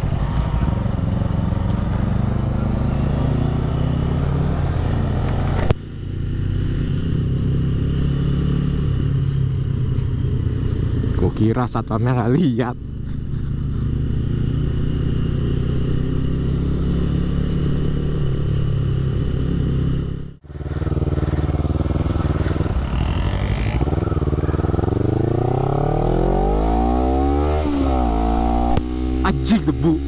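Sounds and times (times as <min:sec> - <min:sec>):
motorcycle engine accelerating: 0:00.0 - 0:30.0
motorcycle engine running: 0:00.0 - 0:30.0.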